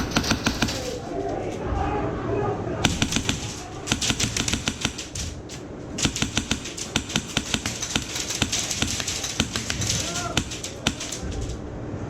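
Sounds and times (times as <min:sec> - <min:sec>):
airsoft guns firing: 0:00.0 - 0:01.2, 0:02.8 - 0:11.6.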